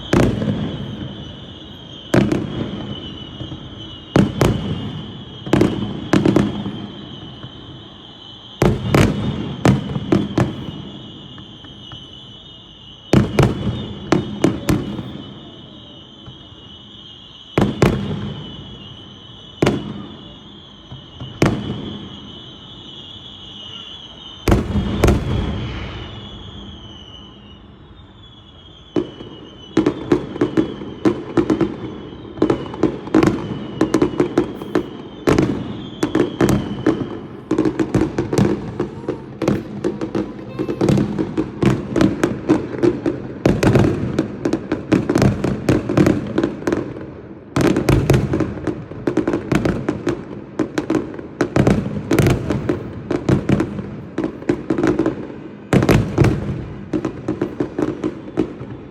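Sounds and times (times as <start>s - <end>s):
firework whistles falling in pitch: 0.0s - 58.9s
fireworks bangs and crackles: 0.0s - 58.9s.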